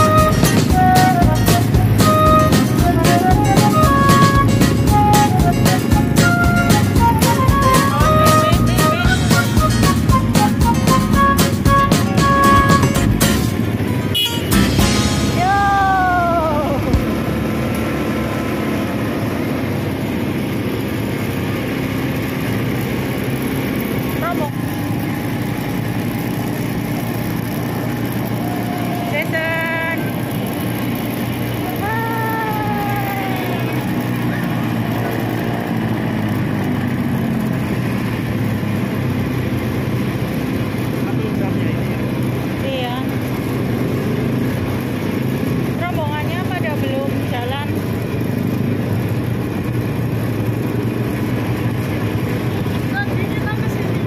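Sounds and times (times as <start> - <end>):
atv engine and road noise: 0.0 - 54.0.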